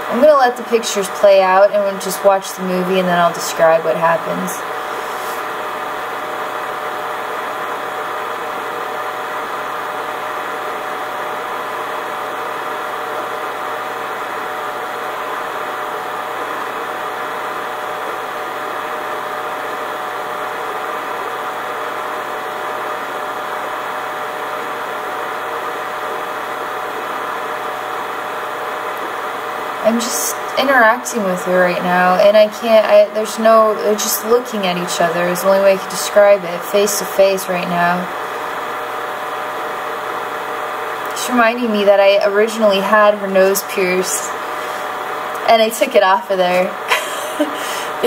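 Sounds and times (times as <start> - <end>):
machine hum with hiss: 0.0 - 48.0.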